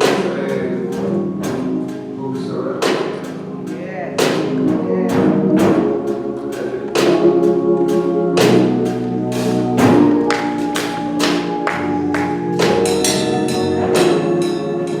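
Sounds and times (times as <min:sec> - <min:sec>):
drum and cymbal hits: 0:00.0 - 0:15.0
keyboard chords: 0:00.0 - 0:15.0.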